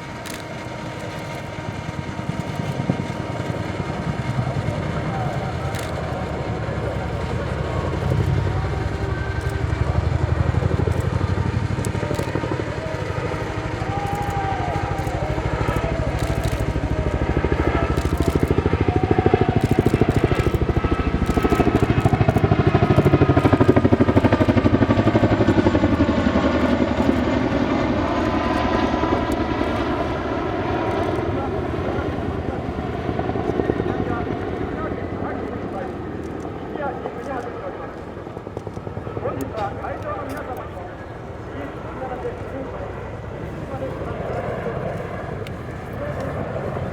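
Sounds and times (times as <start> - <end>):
helicopter engines running: 0.0 - 46.9
helicopter rotor blades beating: 0.0 - 46.9.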